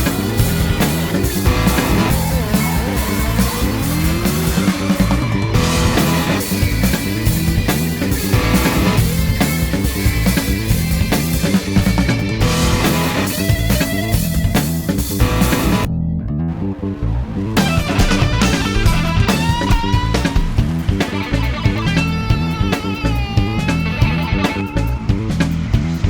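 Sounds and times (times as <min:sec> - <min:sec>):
rock music with electric guitar: 0:00.0 - 0:15.9, 0:16.6 - 0:26.0.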